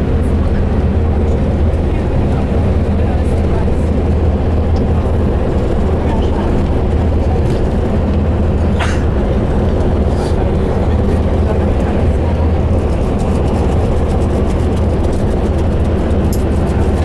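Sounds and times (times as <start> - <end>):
vehicle drone and road noise: 0.0 - 17.0.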